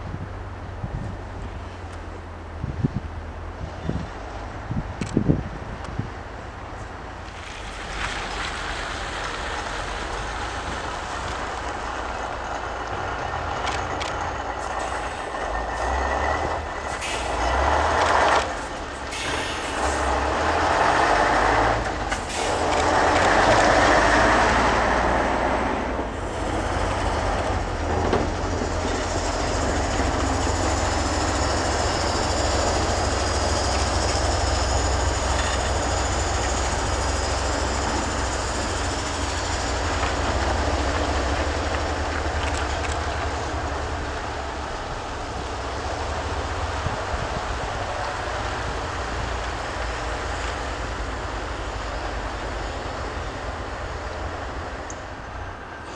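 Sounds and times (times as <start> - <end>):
diesel engine rumble: 0.0 - 55.9
dump trucks driving past: 0.0 - 55.9.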